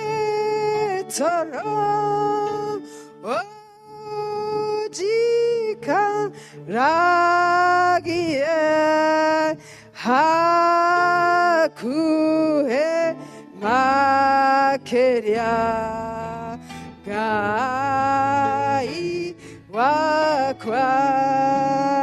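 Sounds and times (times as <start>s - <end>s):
woman singing worship song: 0.0s - 22.0s.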